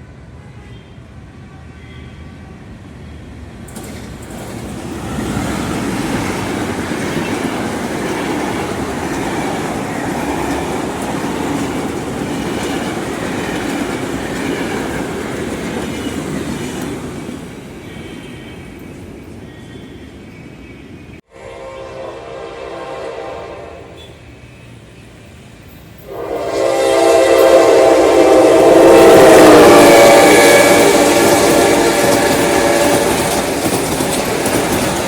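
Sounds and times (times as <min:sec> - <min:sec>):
train wheels rolling on rails: 0:03.2 - 0:21.3, 0:24.0 - 0:35.0.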